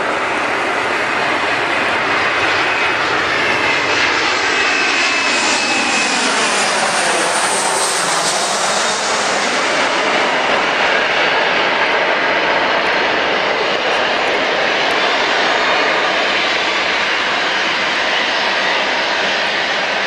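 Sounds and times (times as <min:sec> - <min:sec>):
jet airliner passing low: 0:00.0 - 0:20.0.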